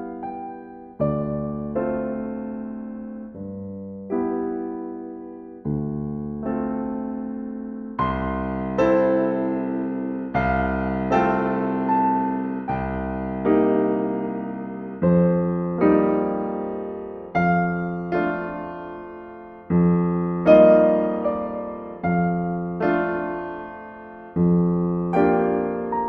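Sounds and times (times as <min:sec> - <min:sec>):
slow solo piano chords: 0:00.0 - 0:26.0.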